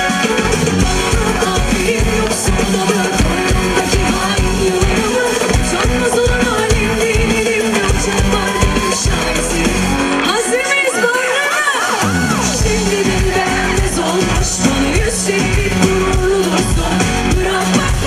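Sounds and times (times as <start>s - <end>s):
drum kit beat: 0.0s - 18.0s
guitar: 0.0s - 18.0s
woman singing into a microphone: 0.9s - 18.0s.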